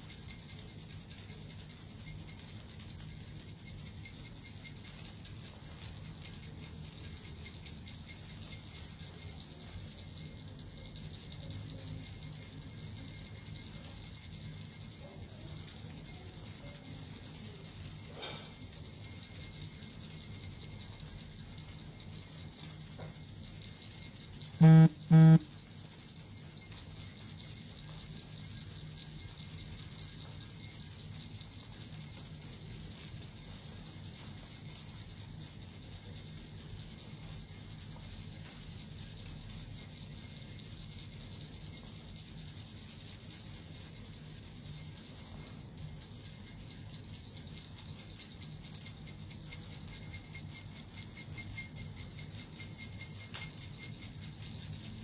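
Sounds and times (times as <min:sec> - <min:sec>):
small bells jingling: 0:00.0 - 0:55.0.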